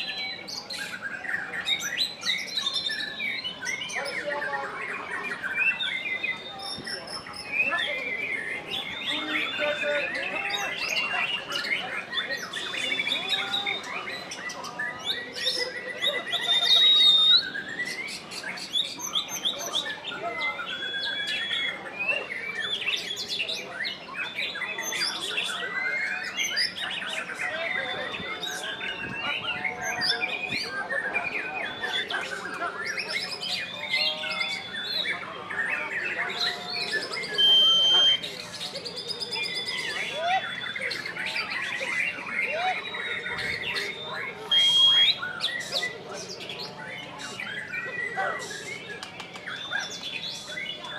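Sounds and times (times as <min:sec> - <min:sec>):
bird singing whistles and trills: 0:00.0 - 0:50.9.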